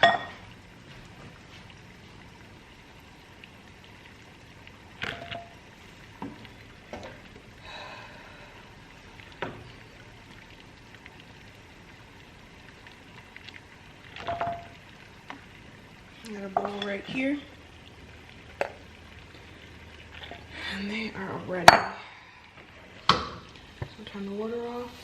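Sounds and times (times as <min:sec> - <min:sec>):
water boiling in a pot: 0:00.0 - 0:25.0.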